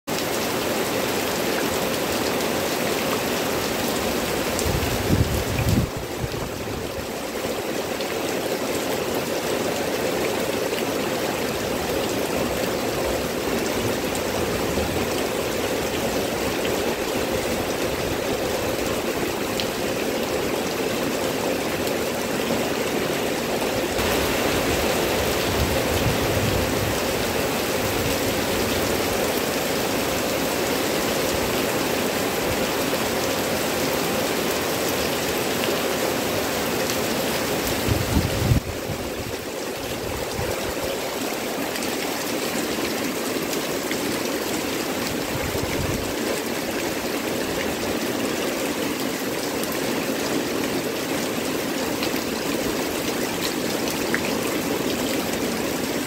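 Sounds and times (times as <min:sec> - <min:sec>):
heavy rain on foliage: 0:00.0 - 0:56.0.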